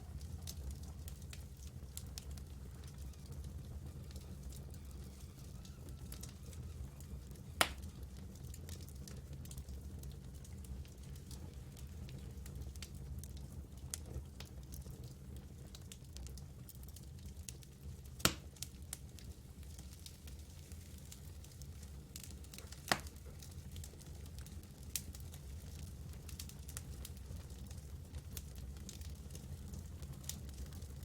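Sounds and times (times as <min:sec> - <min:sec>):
campfire crackling: 0:00.0 - 0:31.0
fire low rumble: 0:00.0 - 0:31.0.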